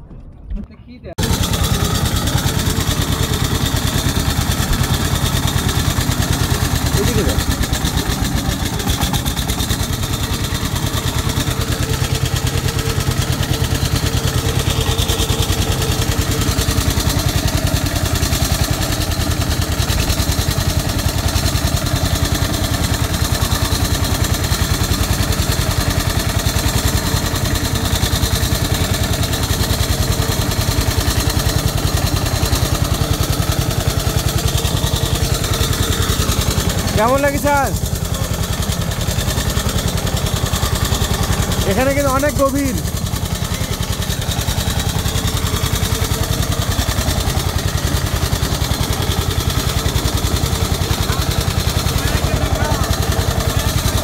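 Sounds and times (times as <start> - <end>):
small boat engine running: 1.2 - 54.0.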